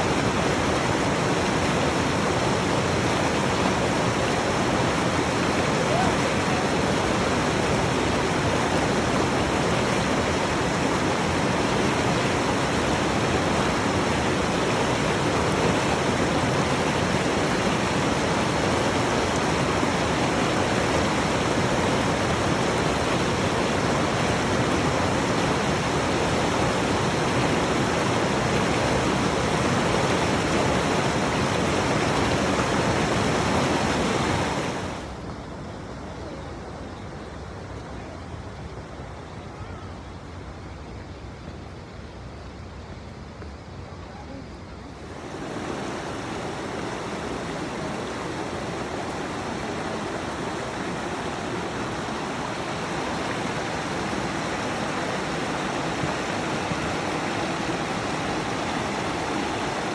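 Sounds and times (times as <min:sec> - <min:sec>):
rushing whitewater: 0:00.0 - 0:59.9.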